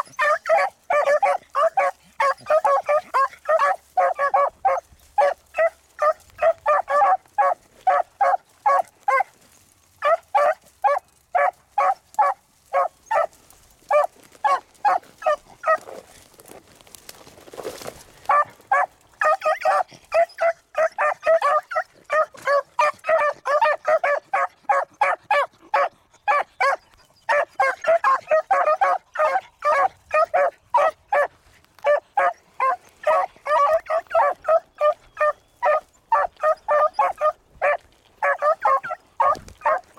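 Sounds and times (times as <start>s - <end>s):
dogs baying: 0.0s - 9.4s, 10.0s - 16.2s, 17.6s - 39.9s.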